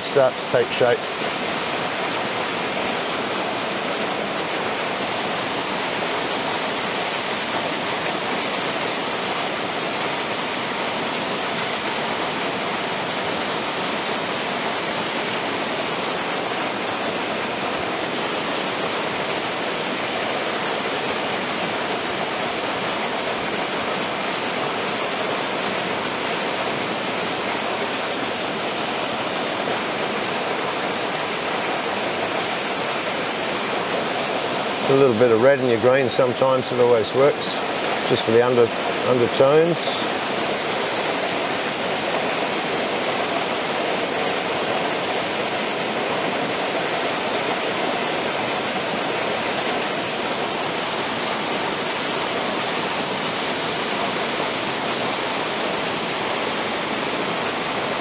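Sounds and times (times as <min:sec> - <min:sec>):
waterfall pouring into a pool: 0:00.0 - 0:58.0.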